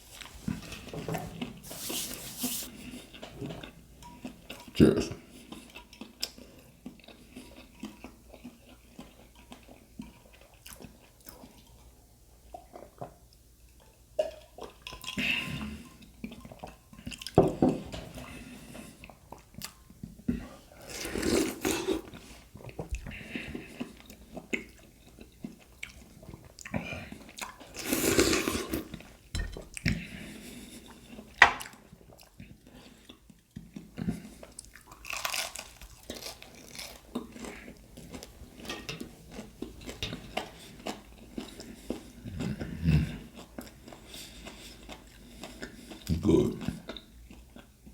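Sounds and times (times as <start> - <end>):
chewing and mouth-smacking: 2.7 - 15.2, 15.9 - 17.4, 18.2 - 20.2, 20.9 - 47.9.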